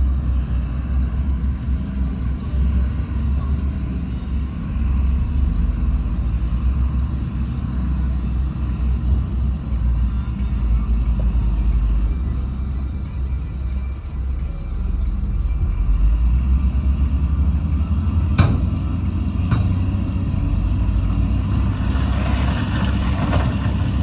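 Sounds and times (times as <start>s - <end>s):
heavy machinery diesel rumble: 0.0s - 24.0s.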